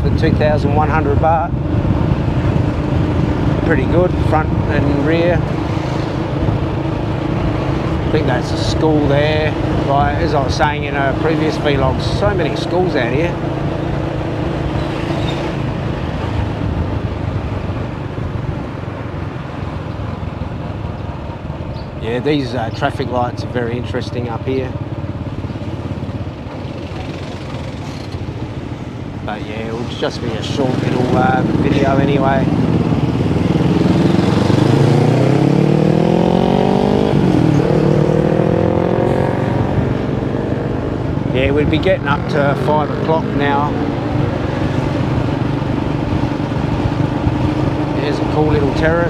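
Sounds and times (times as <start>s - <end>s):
wind rushing over microphone: 0.0s - 22.0s, 27.6s - 49.0s
motorcycle engine running: 0.0s - 49.0s.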